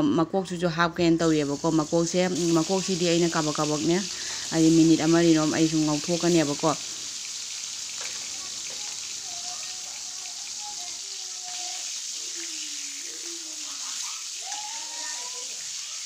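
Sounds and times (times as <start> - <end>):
fish sizzling in hot oil: 1.2 - 16.0.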